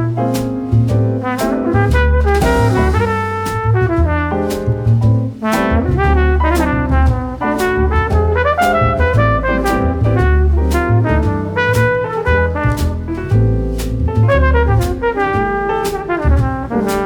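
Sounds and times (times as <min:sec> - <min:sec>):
background music with brass: 0:00.2 - 0:17.0.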